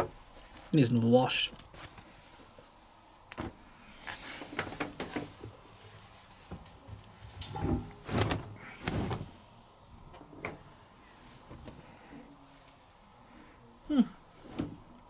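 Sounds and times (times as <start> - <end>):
laundry rustling: 0.0 - 13.1.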